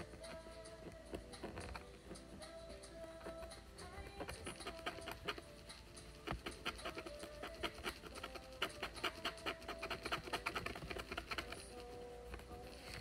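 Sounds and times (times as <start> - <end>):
wooden stick scratching board: 0.0 - 13.0.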